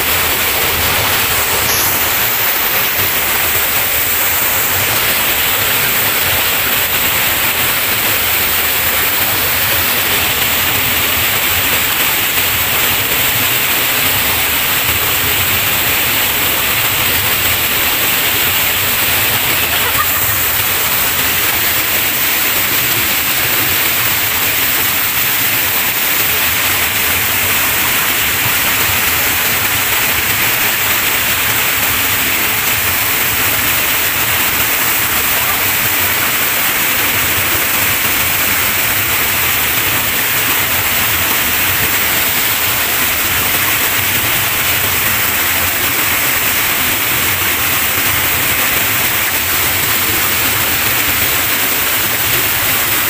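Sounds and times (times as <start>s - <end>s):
waterfall crashing into pool: 0.0s - 53.0s.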